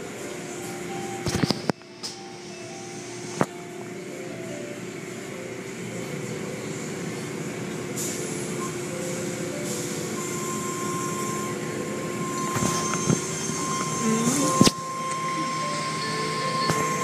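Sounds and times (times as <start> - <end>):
machinery hum: 0.0 - 17.0
thin steady whine: 0.0 - 17.0.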